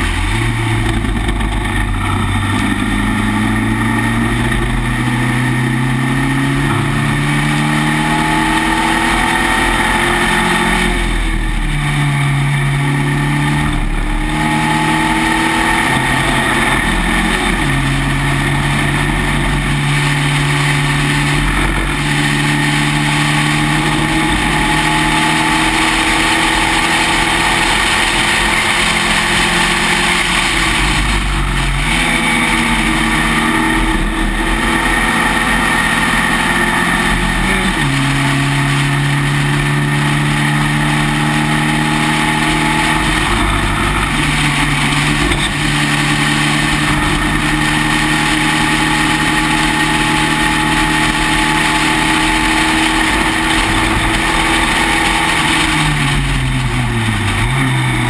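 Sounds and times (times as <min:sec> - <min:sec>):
racing car engine: 0:00.0 - 0:58.0.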